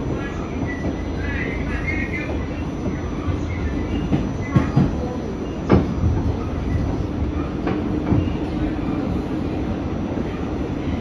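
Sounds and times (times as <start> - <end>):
subway car low rumble: 0.0 - 11.0.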